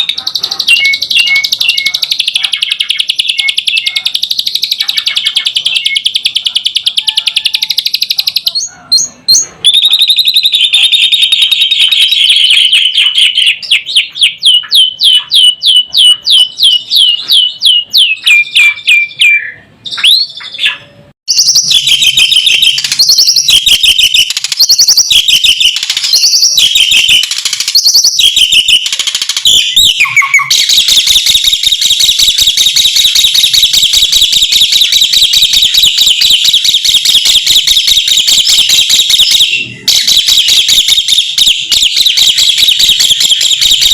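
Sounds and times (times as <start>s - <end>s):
starling singing: 0.0s - 43.9s.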